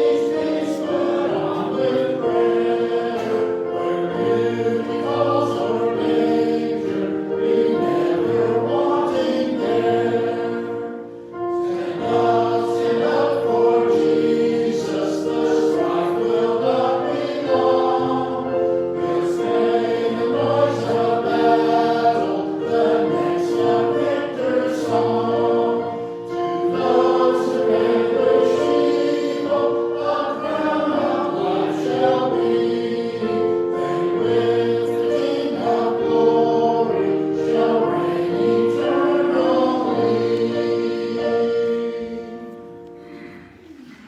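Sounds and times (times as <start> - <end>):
choir singing a hymn: 0.0 - 44.0
instrumental accompaniment: 0.0 - 44.0.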